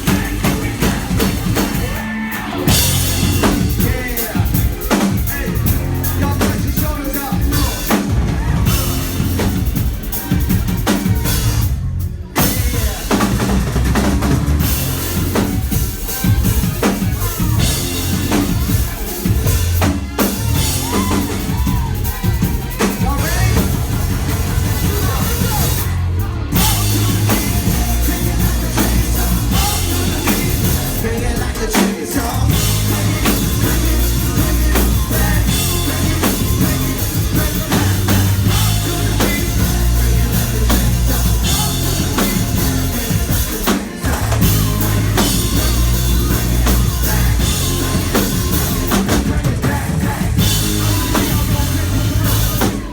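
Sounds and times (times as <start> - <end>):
drum kit pounding: 0.0 - 52.9
heavy bass line: 0.0 - 52.9
live rock band playing: 0.0 - 52.9.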